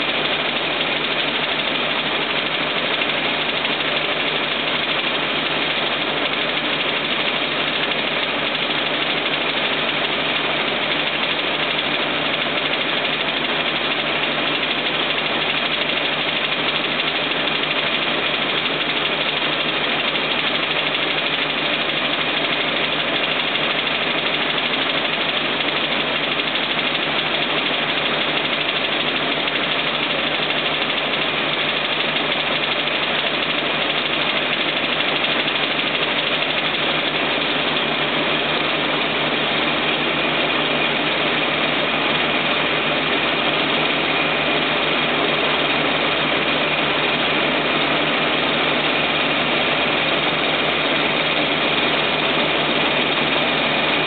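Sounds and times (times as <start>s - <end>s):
combine harvester engine and auger: 0.0s - 54.0s.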